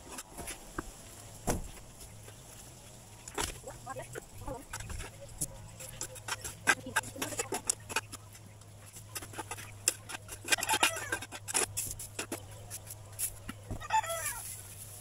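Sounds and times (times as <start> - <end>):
straw scraping and rustling: 0.0 - 15.0
chickens clucking: 2.2 - 15.0.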